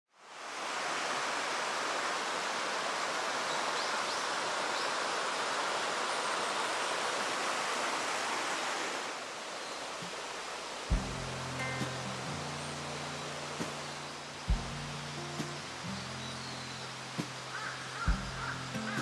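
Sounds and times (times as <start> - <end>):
mountain stream rushing: 0.1 - 19.0.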